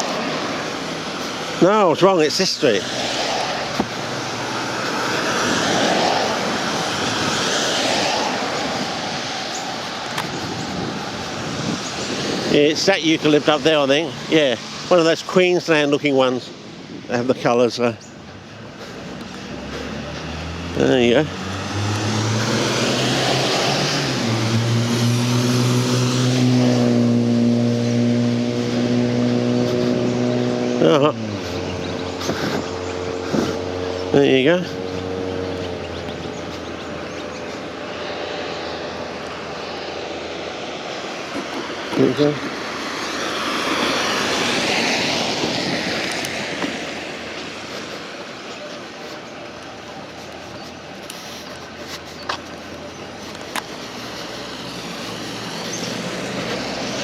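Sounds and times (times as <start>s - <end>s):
steady engine hum: 0.0s - 57.0s
vehicle passing: 0.0s - 57.0s.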